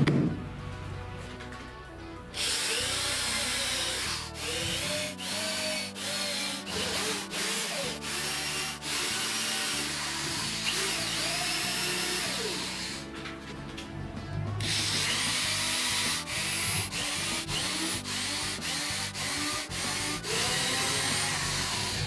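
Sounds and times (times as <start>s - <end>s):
cordless drill boring: 2.4s - 13.1s, 14.6s - 22.0s.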